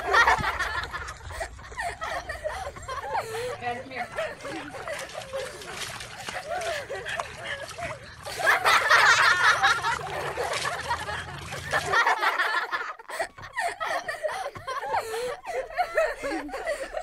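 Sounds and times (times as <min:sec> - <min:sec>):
people laughing: 0:00.0 - 0:17.0.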